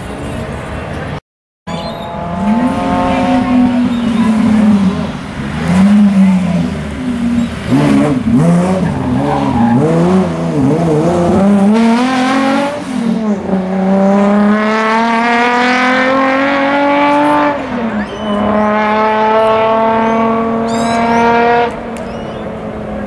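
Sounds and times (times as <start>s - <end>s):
rally car engine at high revs: 1.7s - 22.4s.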